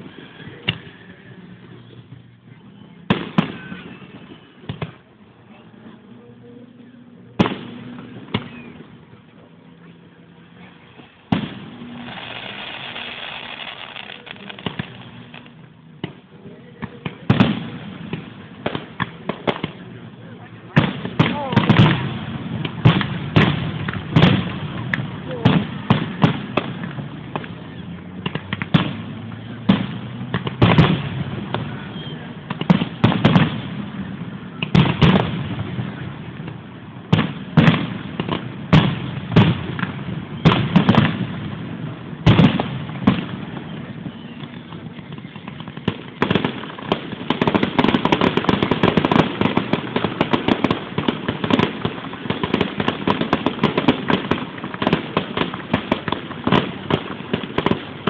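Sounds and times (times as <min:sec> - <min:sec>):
fireworks booming: 0:00.0 - 0:05.2, 0:07.2 - 0:58.0
fireworks crackling: 0:00.0 - 0:06.4, 0:07.1 - 0:58.0.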